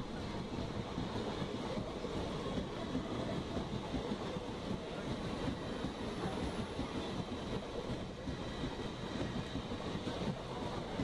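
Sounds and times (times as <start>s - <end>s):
train wheels rattling on rails: 0.0s - 11.0s.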